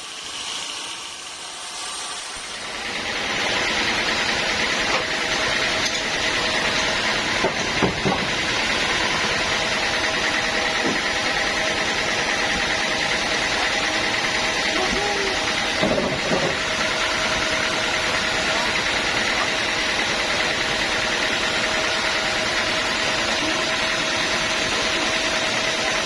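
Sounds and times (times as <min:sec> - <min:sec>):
sawmill machinery whining: 0:00.0 - 0:26.0.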